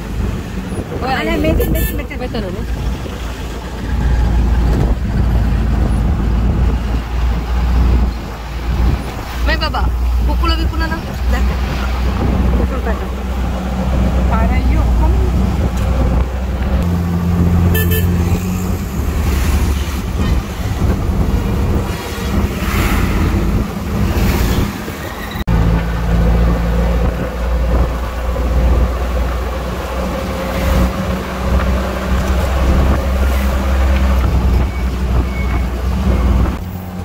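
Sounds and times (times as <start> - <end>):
vehicle engine low rumble: 0.0 - 37.0.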